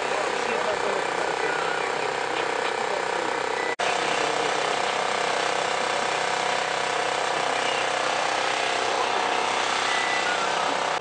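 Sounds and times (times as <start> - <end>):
fast mechanical rattle: 0.0 - 11.0.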